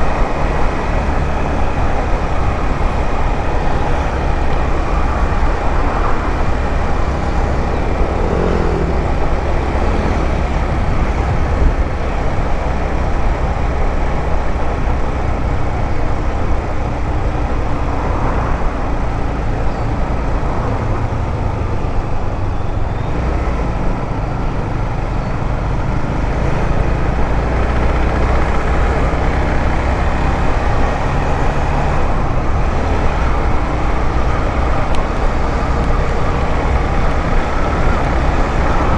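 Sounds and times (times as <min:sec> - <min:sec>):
motorcycle engine running: 0:00.0 - 0:18.4, 0:23.7 - 0:38.9
wind rush on microphone: 0:00.0 - 0:38.9.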